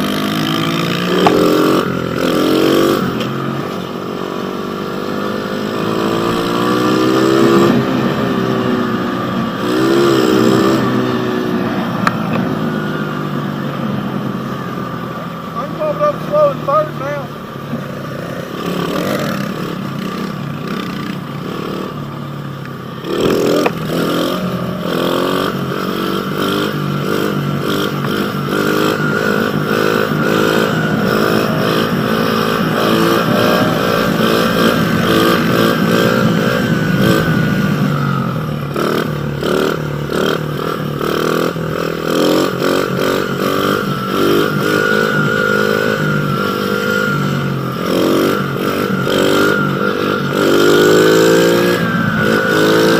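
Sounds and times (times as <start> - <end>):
pit bike engine revving: 0.0 - 52.9.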